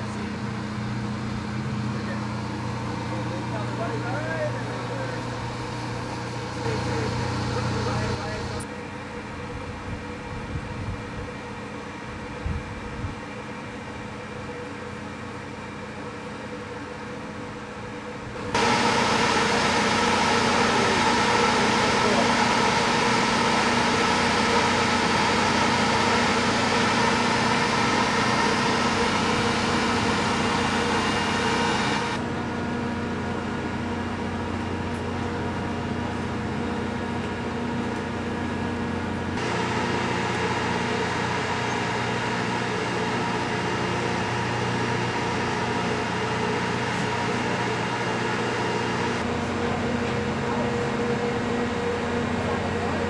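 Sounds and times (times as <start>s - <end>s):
machinery and ventilation hum: 0.0s - 53.0s.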